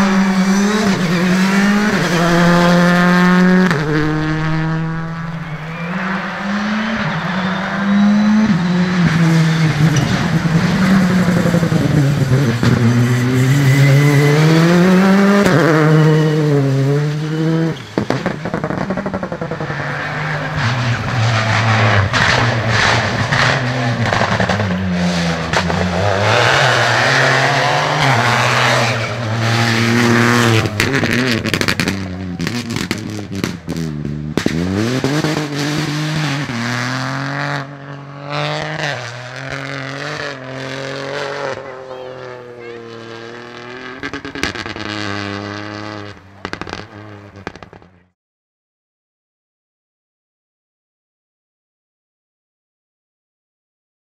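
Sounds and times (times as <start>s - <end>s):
rally car engines revving: 0.0s - 48.1s.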